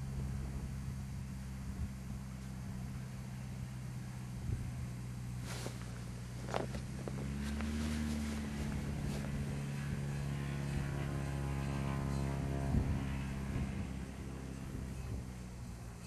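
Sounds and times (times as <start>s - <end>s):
light aircraft engine and propeller: 0.0s - 16.0s.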